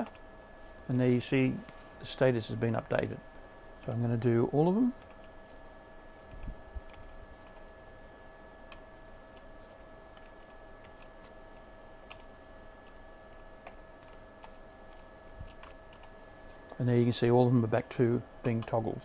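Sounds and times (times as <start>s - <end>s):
faint electrical hum: 0.0s - 19.0s.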